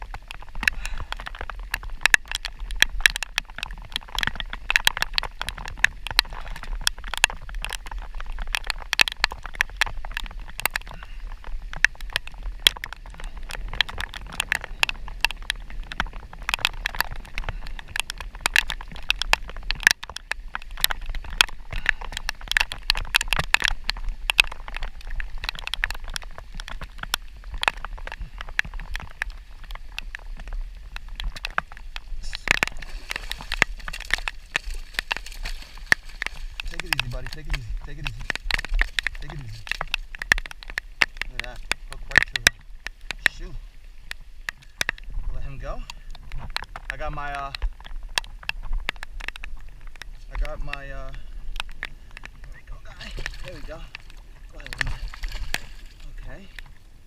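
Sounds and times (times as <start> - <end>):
raindrops pattering: 0.0 - 57.0.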